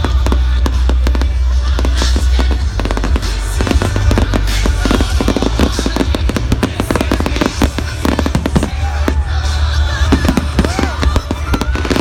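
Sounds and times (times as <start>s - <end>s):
fireworks cracking and banging: 0.0s - 12.0s.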